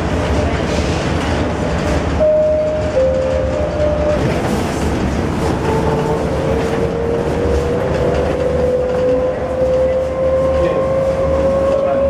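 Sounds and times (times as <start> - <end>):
people-mover car rumbling: 0.0 - 12.0.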